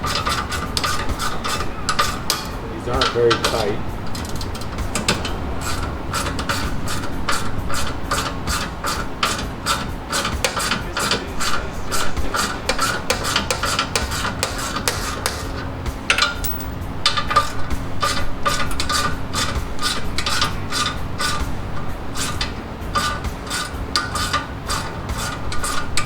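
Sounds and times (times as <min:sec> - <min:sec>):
hand ratchet clicking: 0:00.0 - 0:26.0.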